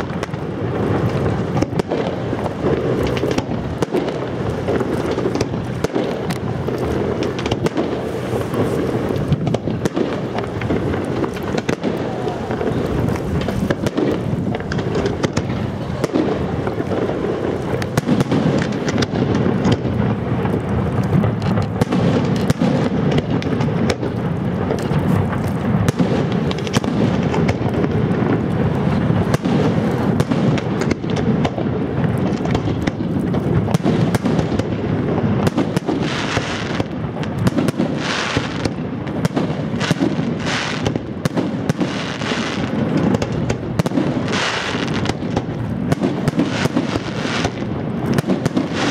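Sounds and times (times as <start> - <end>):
fireworks bangs and crackling: 0.0 - 48.9
fireworks hissing: 0.0 - 48.9.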